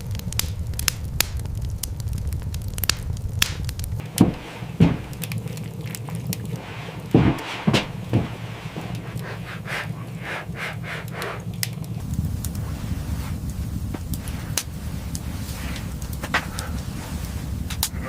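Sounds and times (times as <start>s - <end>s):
low rumble: 0.0s - 18.0s
wood fire crackling: 0.0s - 18.0s
short soft thuds: 2.9s - 17.9s.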